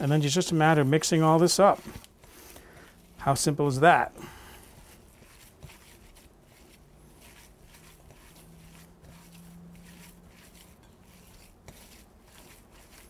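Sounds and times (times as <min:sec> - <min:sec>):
hands squishing raw meat: 0:00.0 - 0:13.0.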